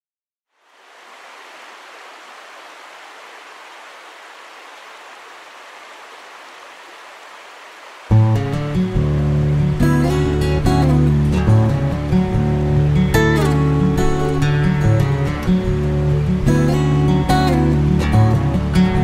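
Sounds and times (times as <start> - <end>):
mountain stream rushing: 0.5 - 19.0.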